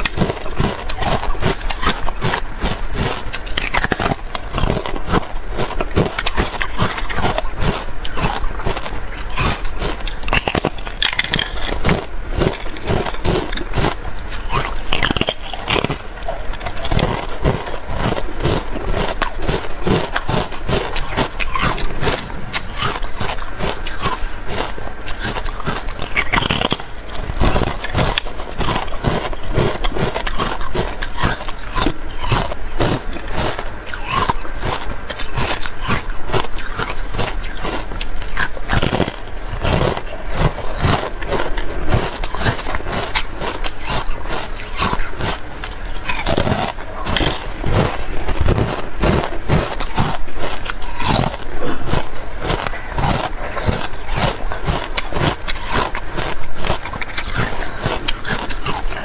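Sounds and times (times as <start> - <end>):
ice crunching between teeth: 0.0 - 59.0.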